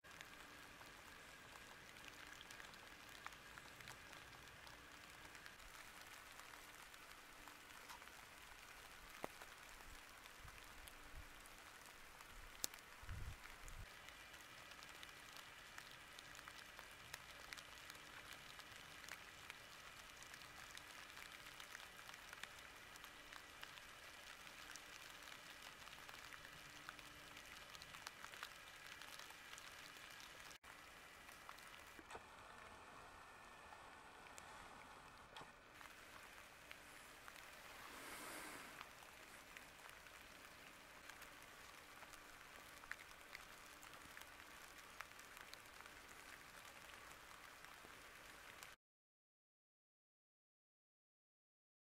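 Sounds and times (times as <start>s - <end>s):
rain on leaf litter: 0.0s - 48.8s.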